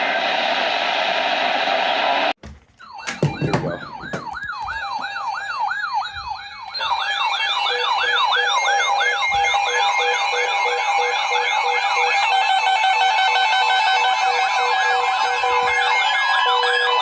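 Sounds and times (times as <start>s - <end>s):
electronic siren yelping: 2.9s - 17.0s.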